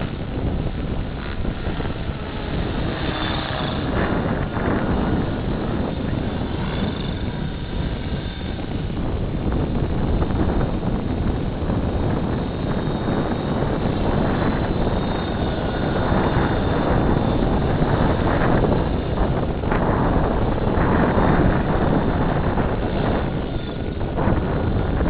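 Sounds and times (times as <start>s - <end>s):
rc helicopter rotor and motor: 0.0s - 25.0s
wind noise on microphone: 0.0s - 25.0s.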